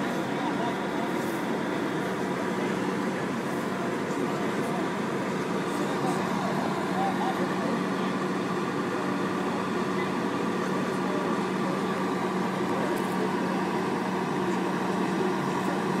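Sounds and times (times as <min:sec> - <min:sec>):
city street noise: 0:00.0 - 0:16.0.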